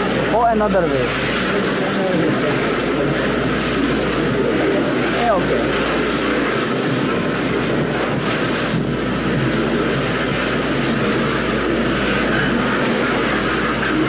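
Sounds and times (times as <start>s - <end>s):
freight train rolling past: 0.0s - 14.0s
wheels clattering on rails: 0.0s - 14.0s.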